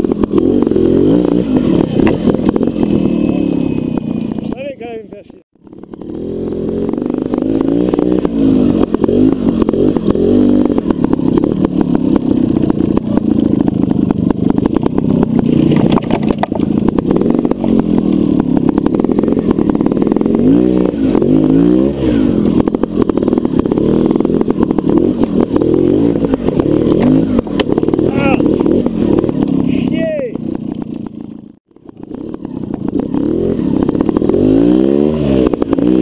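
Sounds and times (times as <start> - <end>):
motorcycle knocks and rattles: 0.0 - 4.8, 5.6 - 36.0
motorcycle engine blipping: 0.0 - 36.0.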